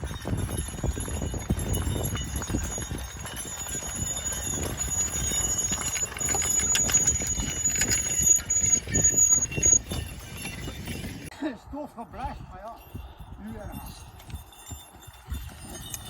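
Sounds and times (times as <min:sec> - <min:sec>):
harness and plough gear knocking: 0:00.0 - 0:11.3, 0:14.2 - 0:16.0
horse hoofbeats: 0:00.0 - 0:11.3, 0:12.8 - 0:16.0.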